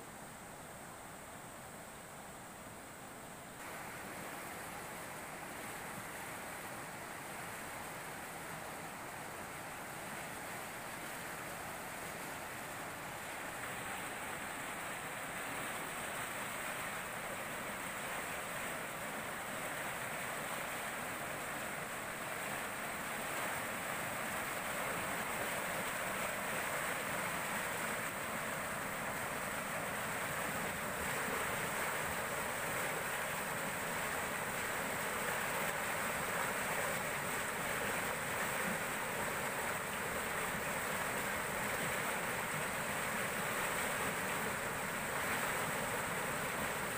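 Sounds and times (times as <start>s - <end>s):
river water rushing through sluice: 0.0s - 46.9s.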